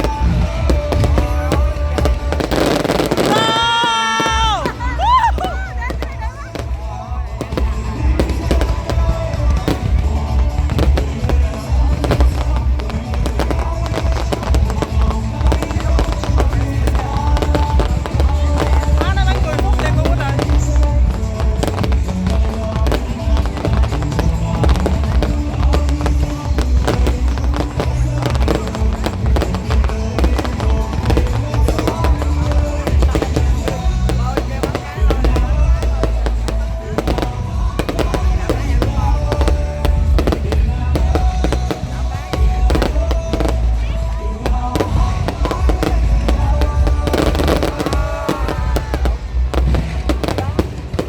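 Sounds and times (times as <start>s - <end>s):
deep rumble: 0.0s - 3.4s, 4.6s - 51.0s
fireworks bursting and crackling: 0.0s - 51.0s
loud music with heavy bass: 0.0s - 51.0s.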